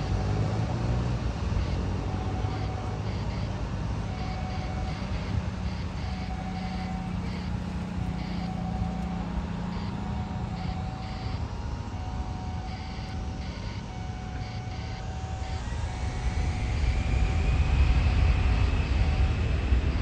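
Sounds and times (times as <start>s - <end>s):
low hum: 0.0s - 20.0s
distant jet engines rumbling: 1.2s - 20.0s.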